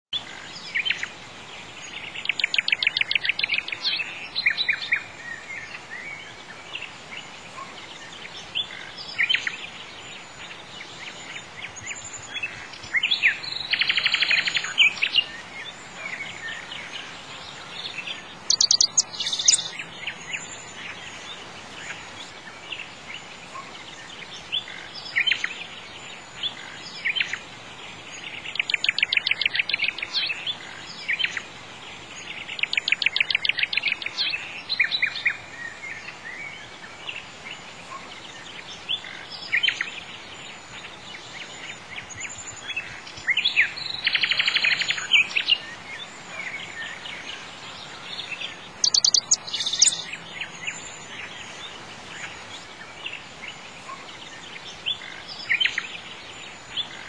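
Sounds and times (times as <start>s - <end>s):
birds singing and chirping: 0.2s - 57.0s
faint hiss: 0.2s - 57.0s.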